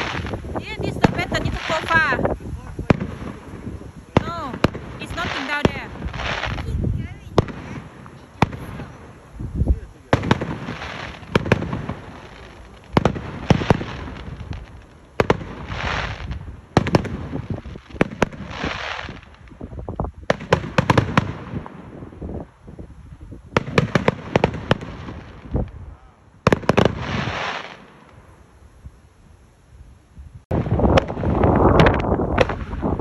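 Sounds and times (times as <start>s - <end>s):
fireworks banging: 0.0s - 22.6s, 23.4s - 28.4s, 30.5s - 33.0s
fireworks crackling hiss: 0.0s - 33.0s.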